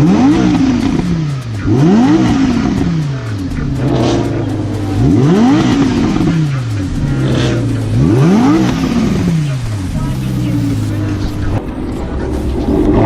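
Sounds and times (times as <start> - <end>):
engine idling: 0.0 - 13.0
engine revving in quick blips: 0.0 - 13.0.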